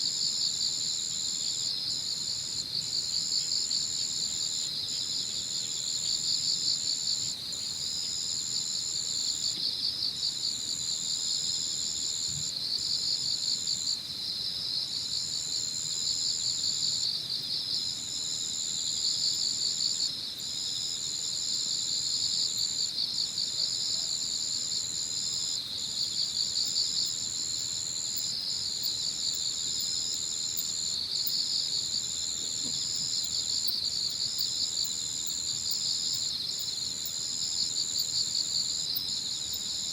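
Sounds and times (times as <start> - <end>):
high continuous insect trill: 0.0 - 39.9
low pulsing insect chirping: 0.2 - 39.9.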